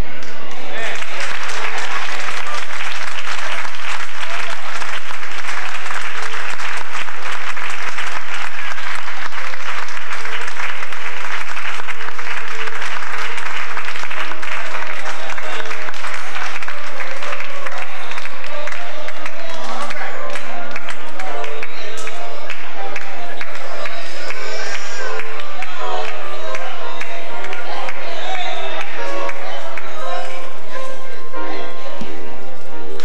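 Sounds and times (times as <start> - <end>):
congregation applauding: 0.0 - 30.5
faint instrumental music: 0.0 - 33.0.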